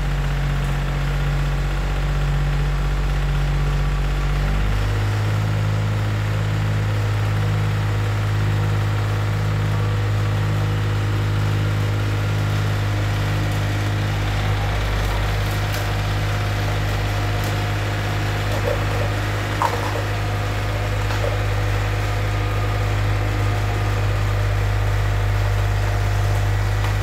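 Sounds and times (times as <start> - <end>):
snowblower engine running: 0.0 - 27.0.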